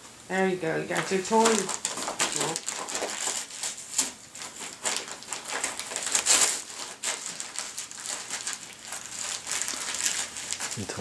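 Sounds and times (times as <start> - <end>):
wrapping paper crinkling and tearing: 0.9 - 11.0.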